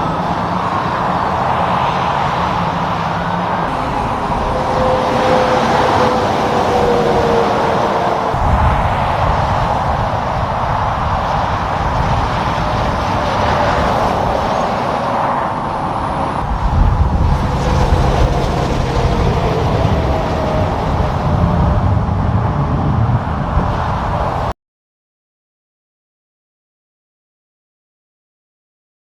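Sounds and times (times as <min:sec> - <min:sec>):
diesel truck driving past: 0:00.0 - 0:24.4
road traffic: 0:00.0 - 0:24.5.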